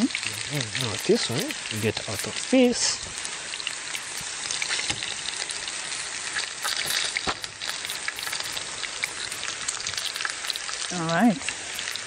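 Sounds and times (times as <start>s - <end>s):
sausages sizzling in frying pan: 0.0s - 12.0s.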